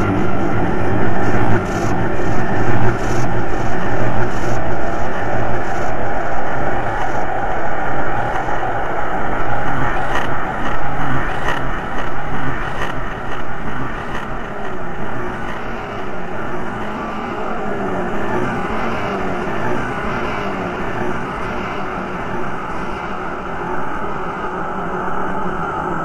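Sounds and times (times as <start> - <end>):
dense rumbling noise music: 0.0 - 26.0.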